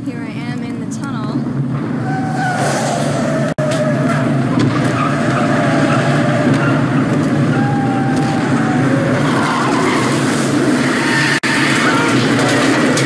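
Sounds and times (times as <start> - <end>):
engines racing: 2.0 - 13.0.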